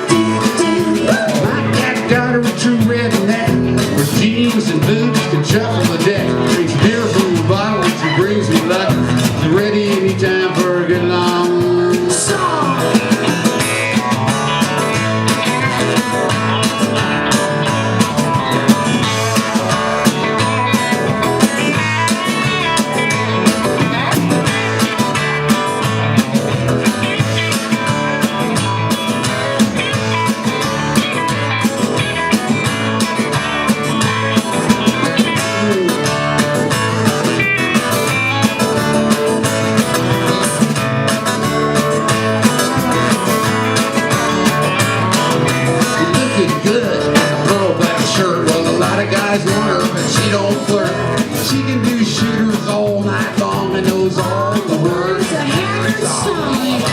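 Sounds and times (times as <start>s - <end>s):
drum kit beat: 0.0s - 56.9s
guitar: 0.0s - 56.9s.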